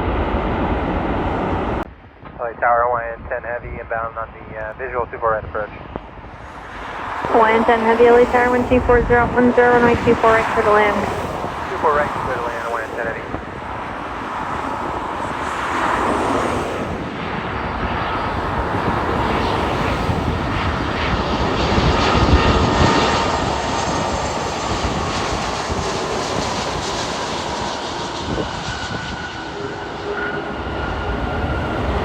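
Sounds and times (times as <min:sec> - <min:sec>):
faint turbine whine: 0:00.0 - 0:32.0
jet airliner passing: 0:00.0 - 0:32.0.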